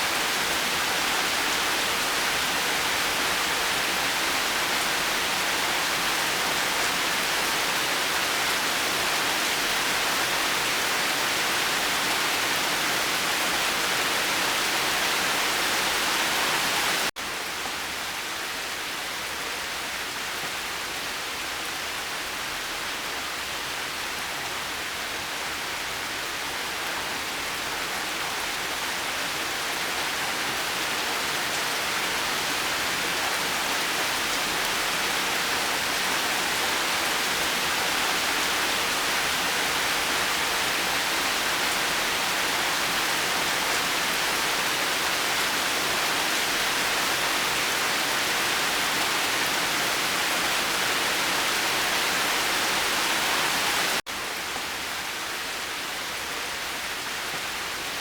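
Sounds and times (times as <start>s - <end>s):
steady dense rainfall: 0.0s - 58.0s.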